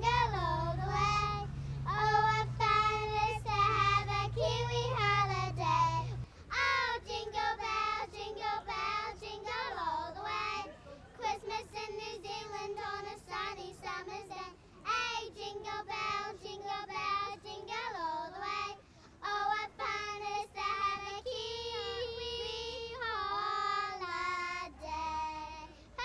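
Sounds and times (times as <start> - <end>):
child singing: 0.0 - 26.0.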